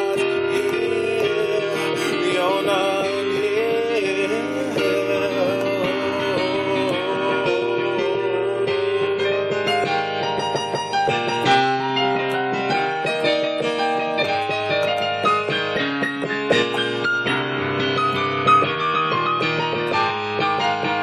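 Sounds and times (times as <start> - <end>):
piano-toned keyboard melody: 0.0 - 21.0.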